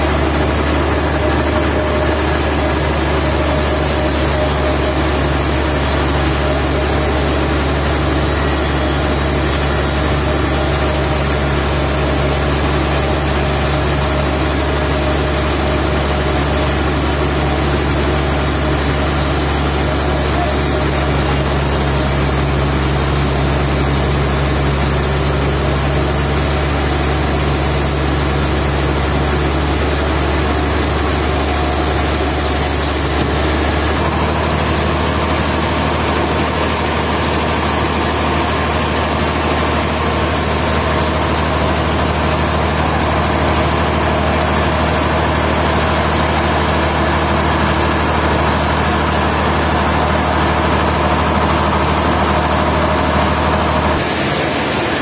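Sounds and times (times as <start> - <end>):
sawmill engine hum: 0.0 - 55.0.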